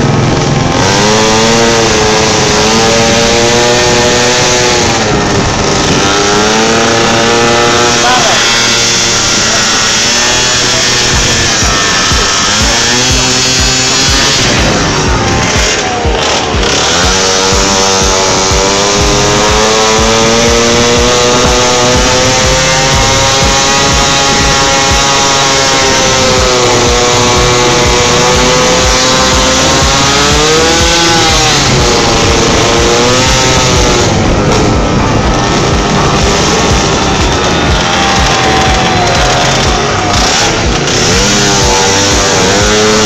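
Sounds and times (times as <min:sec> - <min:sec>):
two-stroke scooter engine: 0:00.0 - 0:43.0.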